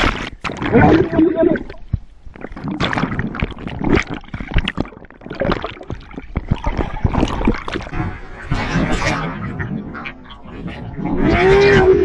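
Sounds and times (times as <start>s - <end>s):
underwater churning and gurgling: 0.0s - 12.0s
water splashes: 0.0s - 12.0s.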